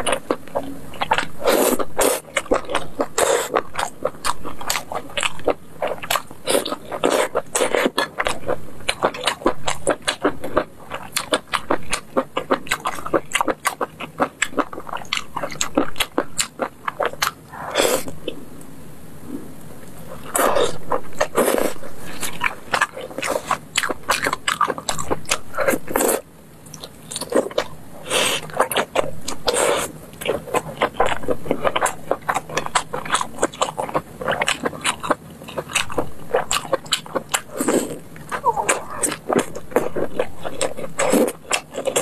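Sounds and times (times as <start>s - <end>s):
close chewing mouth sounds: 0.0s - 18.4s, 20.0s - 42.0s.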